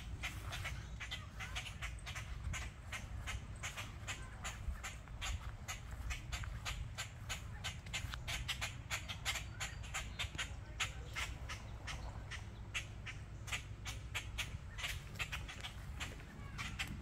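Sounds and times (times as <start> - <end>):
birds alarm calls: 0.0 - 17.0
low steady rumble: 0.0 - 17.0.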